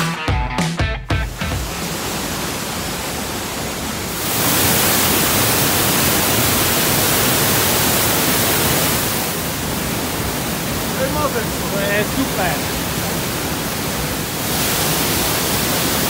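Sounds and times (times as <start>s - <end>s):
waterfall roaring over rock: 1.3s - 16.0s.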